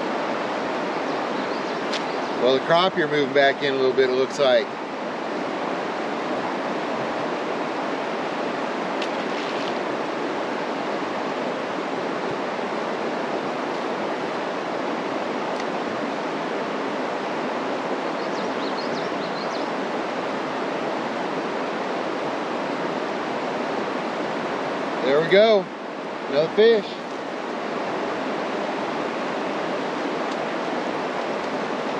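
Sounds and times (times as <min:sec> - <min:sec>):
river rushing over waterfalls: 0:00.0 - 0:31.9.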